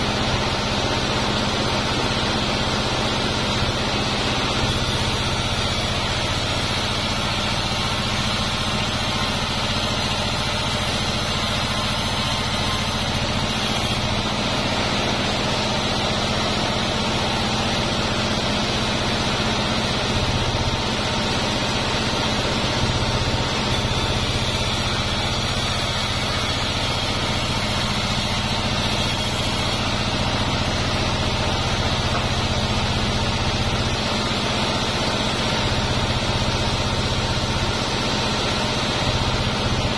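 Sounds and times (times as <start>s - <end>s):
band sawmill droning: 0.0s - 39.9s.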